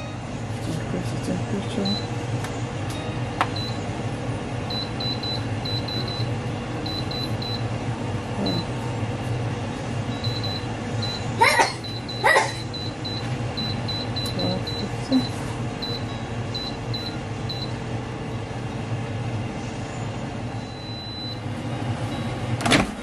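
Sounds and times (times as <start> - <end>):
air fryer fan hum: 0.0 - 23.0.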